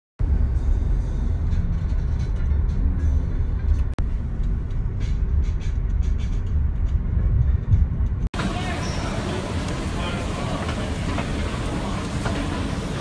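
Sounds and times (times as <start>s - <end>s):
music playing: 0.2s - 13.0s.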